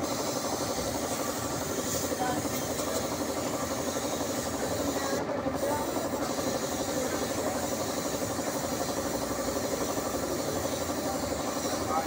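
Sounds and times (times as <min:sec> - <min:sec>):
air compressor running: 0:00.0 - 0:12.0
spray gun air hiss: 0:00.0 - 0:12.0.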